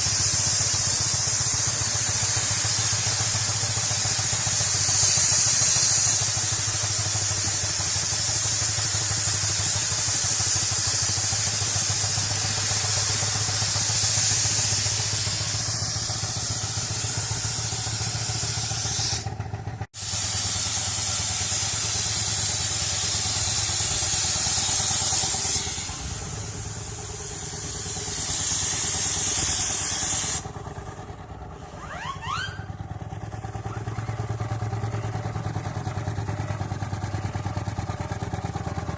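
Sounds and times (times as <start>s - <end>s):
steam hissing: 0.0s - 31.6s
steam engine beat: 0.0s - 38.9s.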